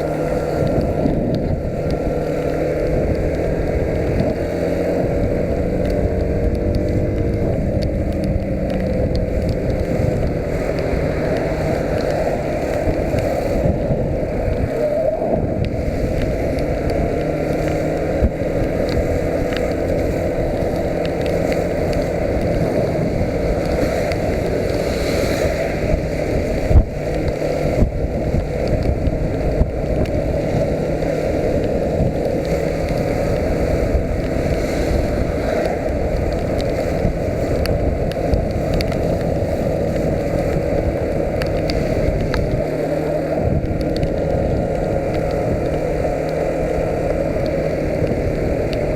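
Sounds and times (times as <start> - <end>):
motorcycle engine running: 0.0 - 48.9
rushing noise: 0.0 - 48.9.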